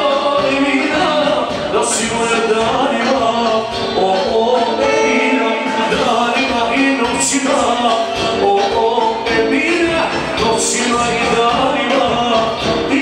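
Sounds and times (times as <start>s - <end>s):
loud music with singer: 0.0s - 13.0s.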